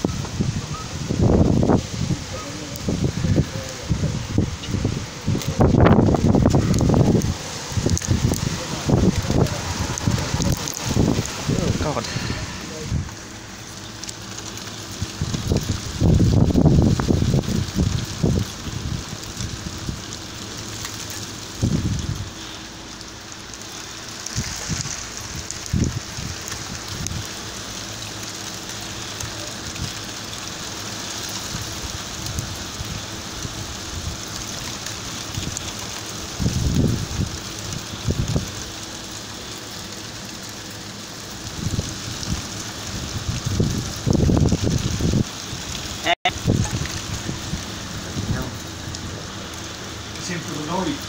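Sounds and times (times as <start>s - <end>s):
wind buffeting microphone: 0.0s - 22.8s, 23.5s - 27.6s, 28.2s - 51.0s
hail and sleet on a tiled roof: 0.0s - 51.0s.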